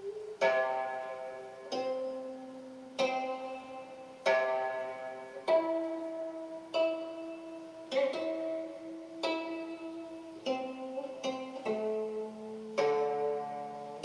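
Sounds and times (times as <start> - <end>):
plucked zither notes: 0.0 - 14.0.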